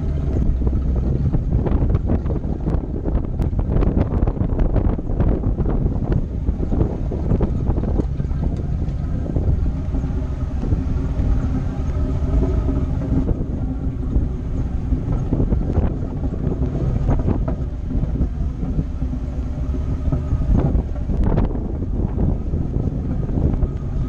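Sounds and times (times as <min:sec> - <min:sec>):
vehicle engine running: 0:00.0 - 0:24.0
wind rumble on microphone: 0:00.0 - 0:24.0.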